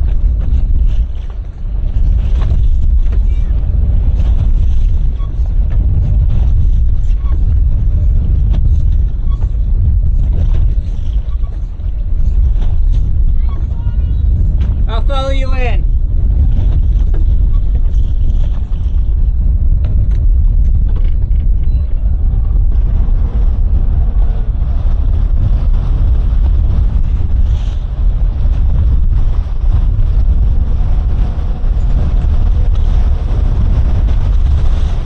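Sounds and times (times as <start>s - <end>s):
outboard motors rumbling: 0.0s - 35.0s
wind buffeting microphone: 0.0s - 35.0s.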